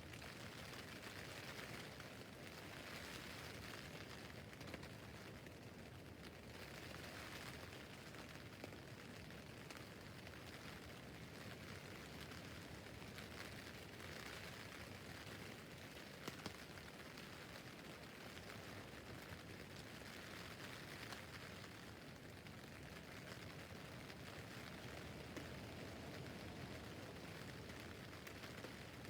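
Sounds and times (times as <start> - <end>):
rain on a tent roof: 0.0 - 29.0.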